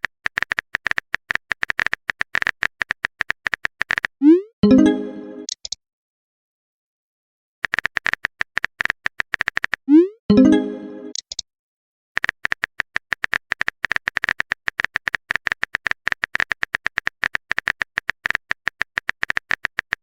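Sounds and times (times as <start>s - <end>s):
keyboard typing clicks: 0.0s - 5.8s, 7.6s - 11.4s, 12.2s - 20.0s.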